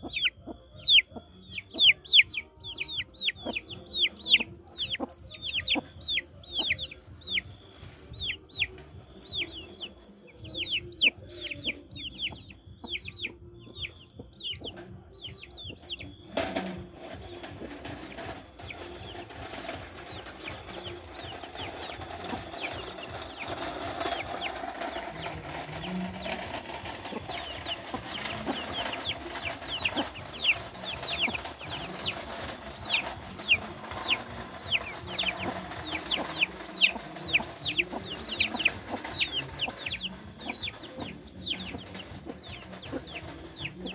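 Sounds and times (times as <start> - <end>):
chicks peeping: 0.0 - 43.9
hen clucking: 0.0 - 43.9.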